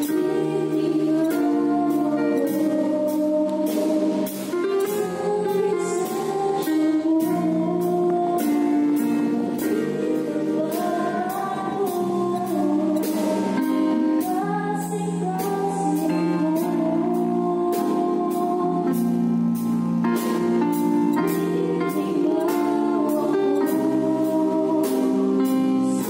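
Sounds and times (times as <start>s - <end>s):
drum and cymbal beat: 0.0s - 26.0s
keyboard chords: 0.0s - 26.0s
person singing: 0.0s - 26.0s.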